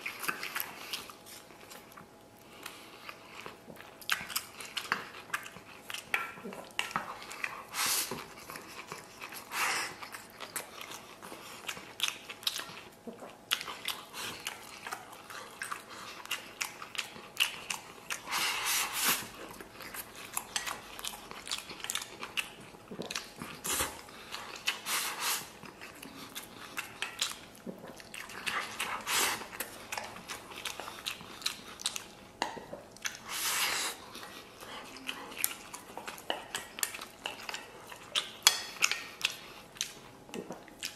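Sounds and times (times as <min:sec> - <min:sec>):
man chewing food: 0:00.0 - 0:40.9.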